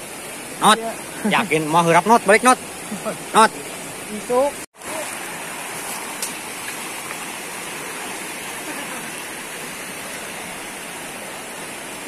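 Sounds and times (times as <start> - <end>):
fast-flowing floodwater rushing: 0.0 - 12.0.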